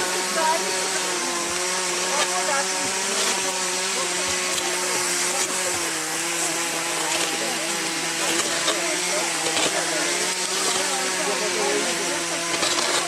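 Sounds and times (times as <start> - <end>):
small engine running fast: 0.0 - 13.0.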